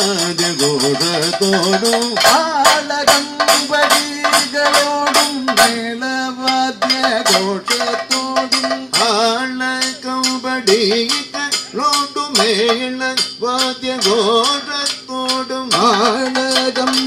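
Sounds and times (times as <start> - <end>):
jangling metallic percussion: 0.0 - 17.0
man singing long wavering notes: 0.0 - 17.0
sharp drum strokes: 0.0 - 17.0.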